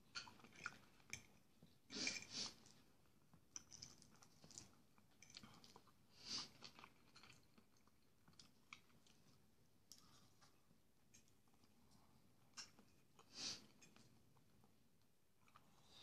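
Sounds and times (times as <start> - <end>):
man chewing food: 0.0 - 16.0.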